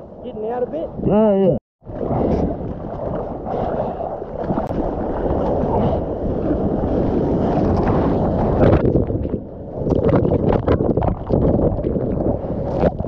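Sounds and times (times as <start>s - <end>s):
water rushing and splashing: 1.8s - 13.0s.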